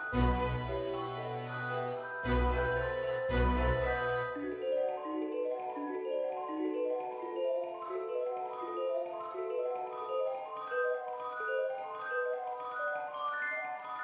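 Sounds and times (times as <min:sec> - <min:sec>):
marimba-like mallet melody: 0:00.0 - 0:14.0.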